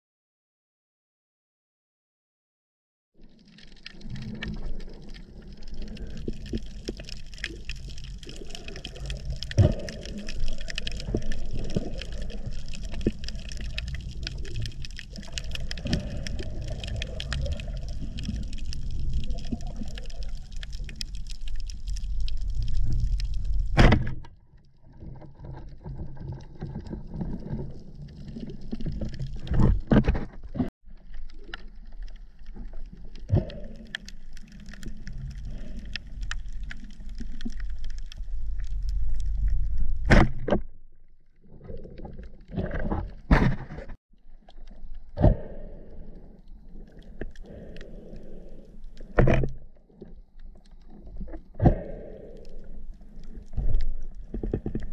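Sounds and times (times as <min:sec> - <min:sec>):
crackle of small clicks: 0:03.2 - 0:54.9
underwater rumble of moving water: 0:03.2 - 0:54.9.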